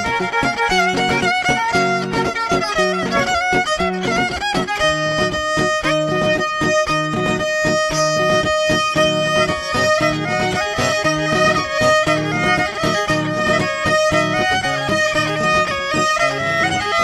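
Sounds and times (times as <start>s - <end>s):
low plucked accompaniment: 0.0s - 17.0s
violin melody: 0.0s - 17.0s.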